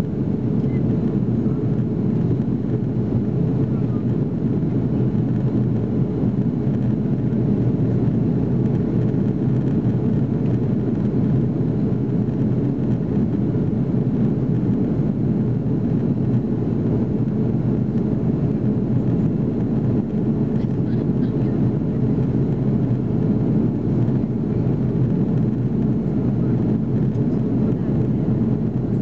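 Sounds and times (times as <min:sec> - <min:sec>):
airplane cabin engine hum: 0:00.0 - 0:29.0.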